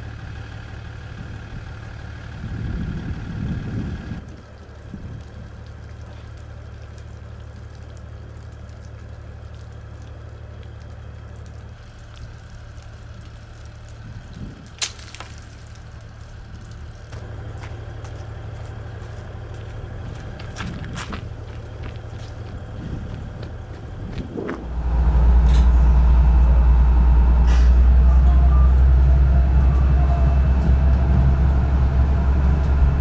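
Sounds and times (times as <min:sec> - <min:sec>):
diesel railcar engine idling: 0:00.0 - 0:14.2, 0:15.5 - 0:33.0.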